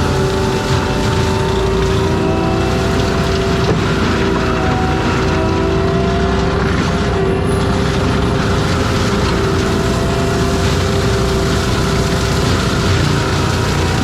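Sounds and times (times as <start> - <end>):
forestry mulcher whining: 0.0 - 14.0.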